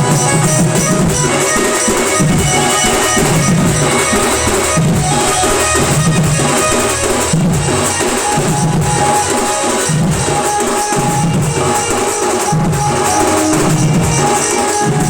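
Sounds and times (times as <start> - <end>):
driving drums: 0.0 - 15.0
held melody line: 0.0 - 15.0.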